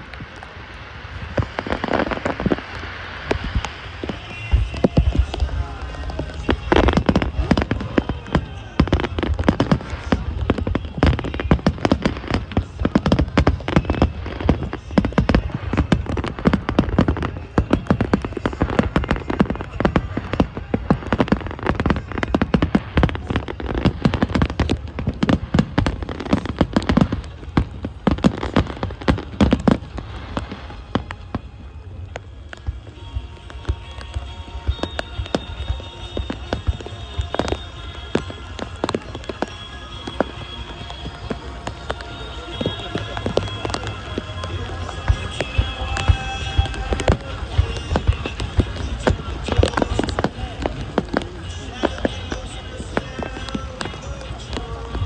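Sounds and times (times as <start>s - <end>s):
fireworks bursts and crackles: 0.0s - 55.0s.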